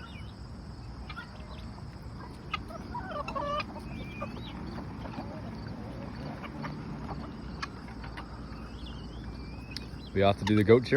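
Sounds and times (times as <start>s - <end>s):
chickens clucking: 0.0s - 10.9s.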